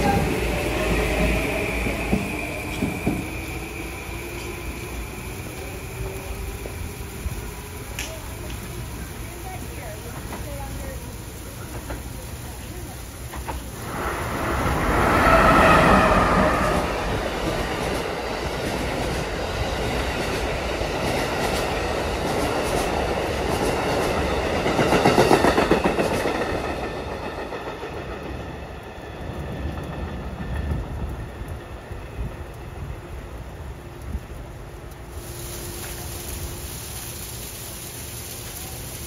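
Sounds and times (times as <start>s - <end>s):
wheels clacking over rail joints: 0.0s - 31.8s
passing train rushing: 0.0s - 39.0s.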